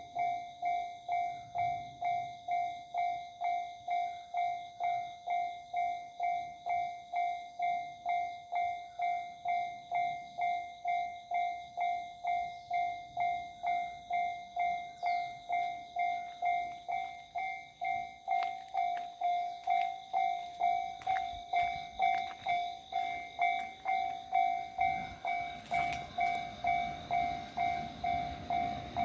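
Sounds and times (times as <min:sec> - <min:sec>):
level crossing warning bell: 0:00.0 - 0:29.0.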